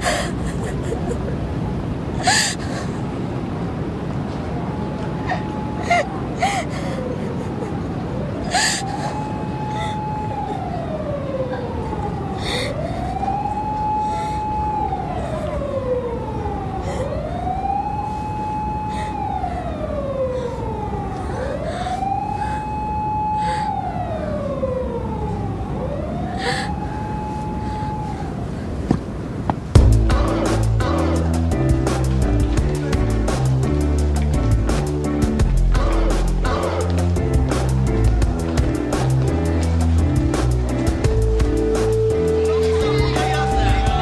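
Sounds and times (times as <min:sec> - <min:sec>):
emergency vehicle siren wailing: 0:00.0 - 0:28.8, 0:35.6 - 0:44.0
street noise hiss: 0:00.0 - 0:44.0.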